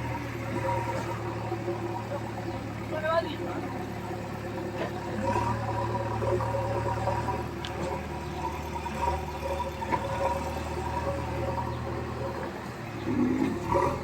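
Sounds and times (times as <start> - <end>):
diesel engine running at low revs: 0.0 - 14.0.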